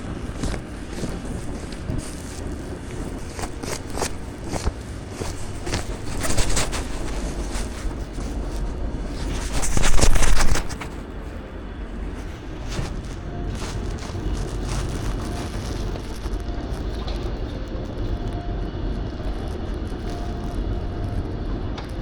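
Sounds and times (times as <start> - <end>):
short crackles and scrapes: 0.0 - 22.0
wind rumbling on microphone: 0.0 - 22.0.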